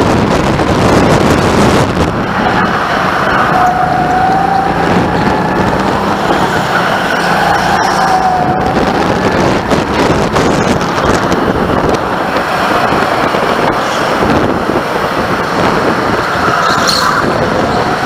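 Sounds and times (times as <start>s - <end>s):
go-kart motor running: 0.0s - 18.0s
wind rushing over microphone: 0.0s - 18.0s.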